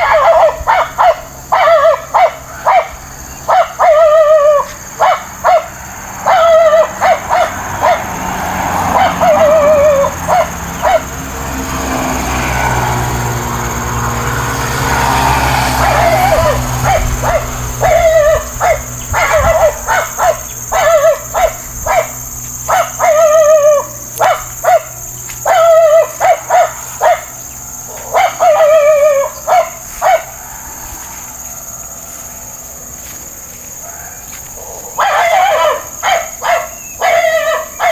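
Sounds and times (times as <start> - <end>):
animal wavering cries: 0.0 - 13.1, 14.7 - 37.9
animal barking: 0.0 - 37.9.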